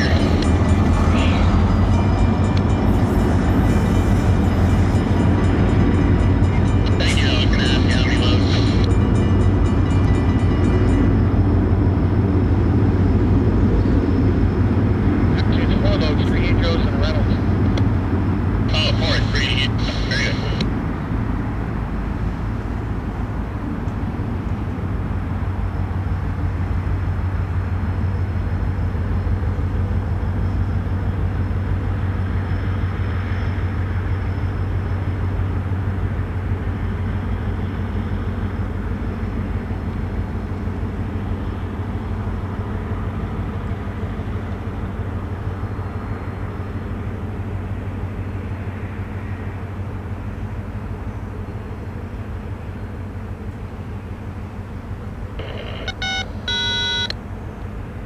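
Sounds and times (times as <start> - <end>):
diesel locomotive engine drone: 0.0 - 58.0.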